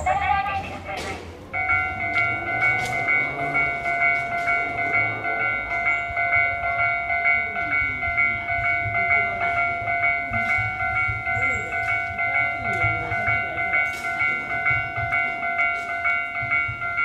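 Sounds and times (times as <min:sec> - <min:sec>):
electronic railway warning bell: 0:00.0 - 0:17.0.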